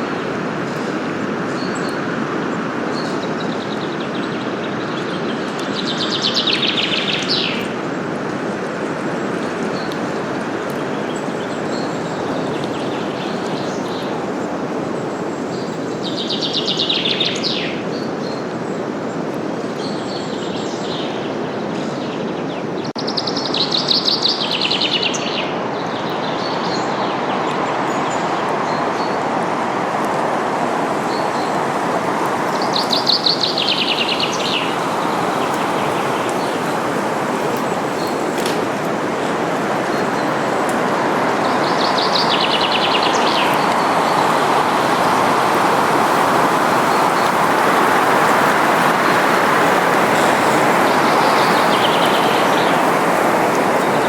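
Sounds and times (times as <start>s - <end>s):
wind through leaves: 0.0s - 54.0s
songbird trill: 1.5s - 7.9s, 9.7s - 18.8s, 19.8s - 54.0s.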